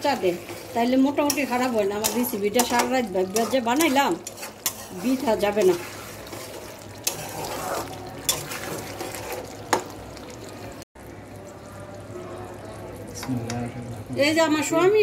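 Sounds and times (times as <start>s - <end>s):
curry sizzling and bubbling in a pot: 0.0s - 15.0s.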